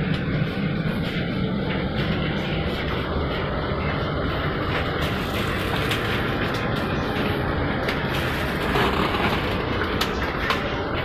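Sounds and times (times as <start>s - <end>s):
train carriage rumble and hum: 0.0s - 11.0s
clicks and knocks of people moving: 0.1s - 11.0s.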